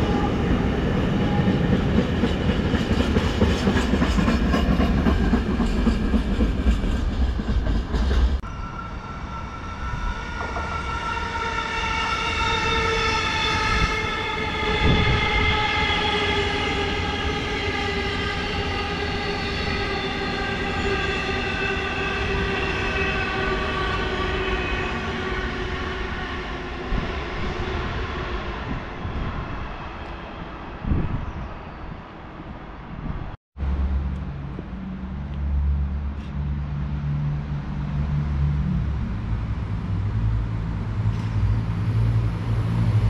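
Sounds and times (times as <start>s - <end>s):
train whine: 0.0s - 43.0s.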